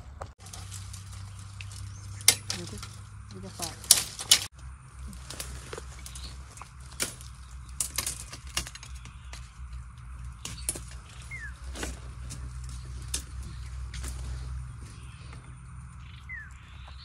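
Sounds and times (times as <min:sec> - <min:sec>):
dry leaves and twigs crackling: 0:00.0 - 0:17.0.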